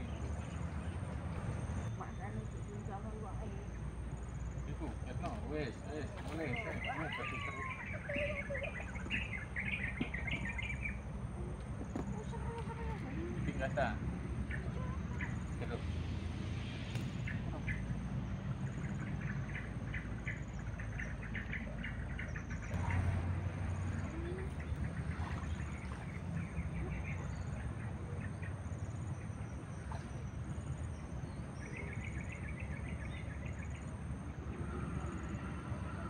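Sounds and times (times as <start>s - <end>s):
birds chirping: 0.0s - 36.0s
low background rumble: 0.0s - 36.0s.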